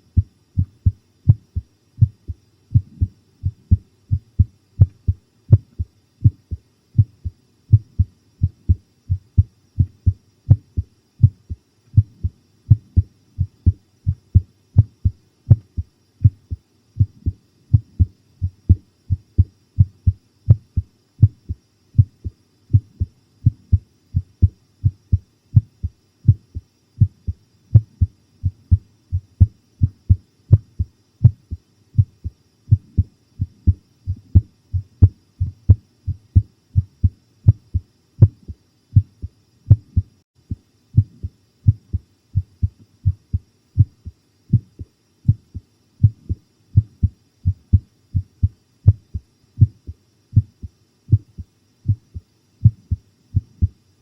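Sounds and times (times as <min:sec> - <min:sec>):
heartbeat thuds: 0:00.0 - 0:53.8.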